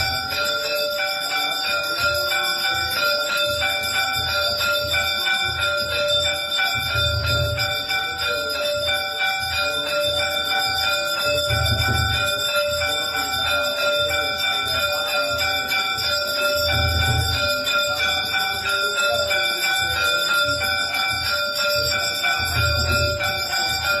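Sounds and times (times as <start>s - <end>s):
temple bells ringing: 0.0s - 24.0s.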